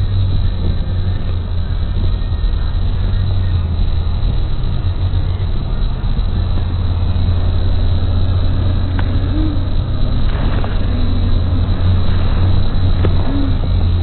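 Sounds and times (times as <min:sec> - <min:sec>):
car cabin rumble: 0:00.0 - 0:14.0.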